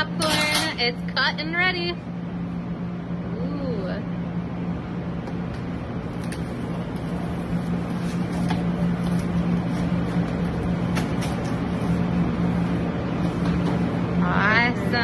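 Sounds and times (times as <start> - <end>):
kitchen machinery hum: 0.0 - 15.0.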